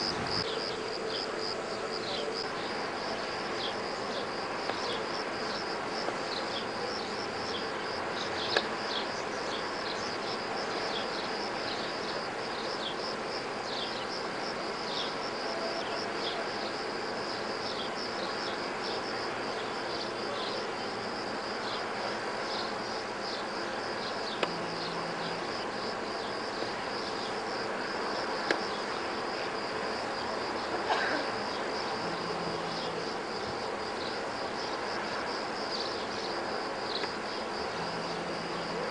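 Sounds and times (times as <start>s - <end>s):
background hiss: 0.0s - 38.9s
insects chirping: 0.0s - 38.9s.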